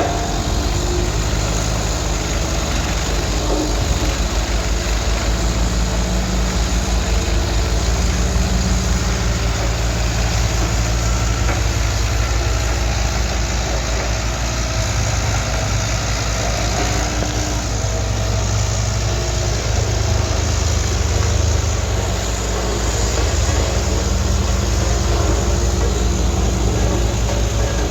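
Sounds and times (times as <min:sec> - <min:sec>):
road roller diesel engine: 0:00.0 - 0:27.9.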